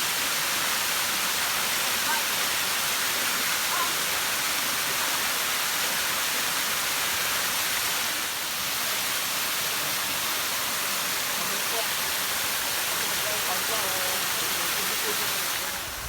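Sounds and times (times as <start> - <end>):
water rushing in a stream: 0.0 - 16.0.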